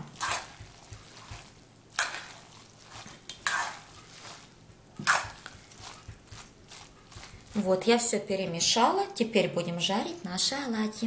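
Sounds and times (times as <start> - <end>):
wet batter squishing in bowl: 0.0 - 9.2.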